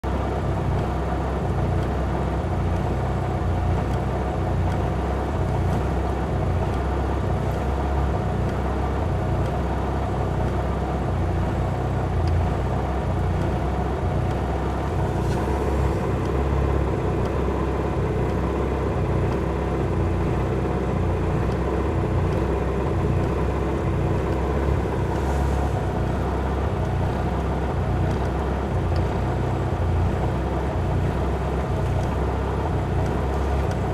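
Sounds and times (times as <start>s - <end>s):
car engine idling rough: 0.0s - 33.9s.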